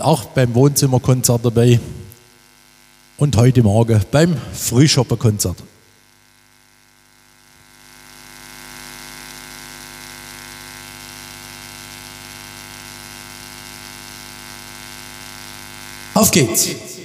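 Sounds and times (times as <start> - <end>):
steady electronic buzz: 0.0 - 17.0.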